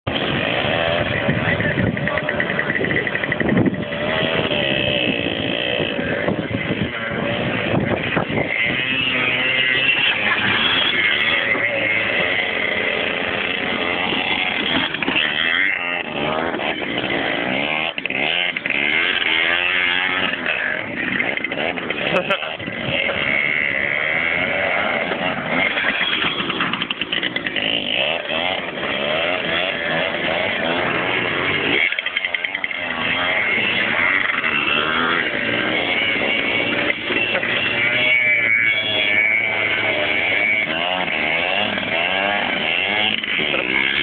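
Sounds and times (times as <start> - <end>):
motocross engines revving: 0.0 - 44.0.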